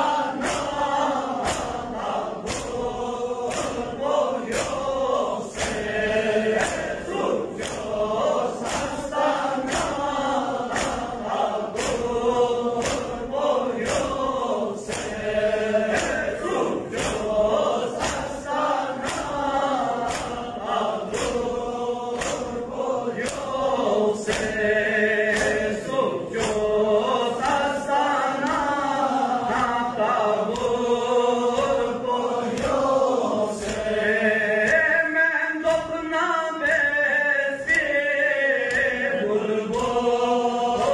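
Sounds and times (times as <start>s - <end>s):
men chanting in chorus: 0.0s - 40.9s
rhythmic chest-beating slaps: 0.0s - 40.9s.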